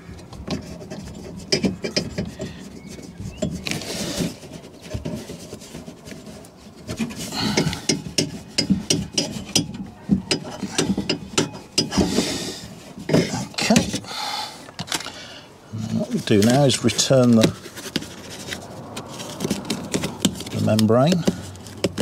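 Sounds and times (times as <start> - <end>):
rubbing and rustling: 0.0 - 22.0.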